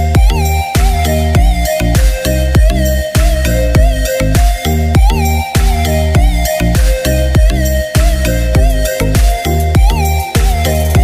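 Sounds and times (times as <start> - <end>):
deep bass hits: 0.0 - 11.0
held synth melody: 0.0 - 11.0.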